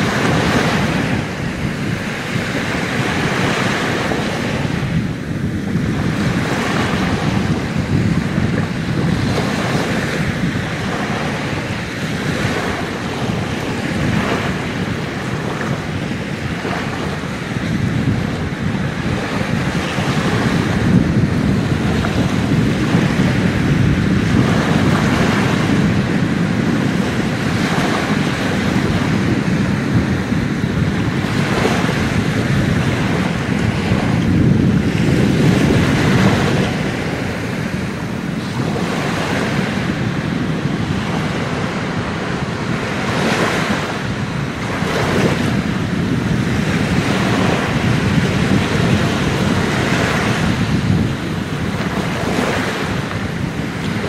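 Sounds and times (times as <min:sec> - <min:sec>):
waves washing on sandy shore: 0:00.0 - 0:54.0
wind rumbling on microphone: 0:00.0 - 0:54.0.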